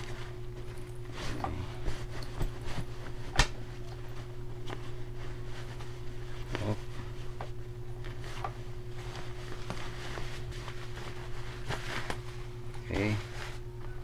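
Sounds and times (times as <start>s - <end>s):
cloth rustling: 0.0s - 14.0s
steady low hum: 0.0s - 14.0s.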